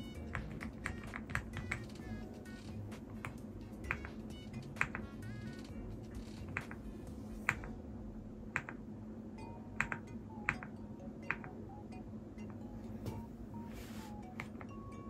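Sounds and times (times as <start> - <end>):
keyboard keys clacking: 0.0 - 7.8, 9.4 - 15.0.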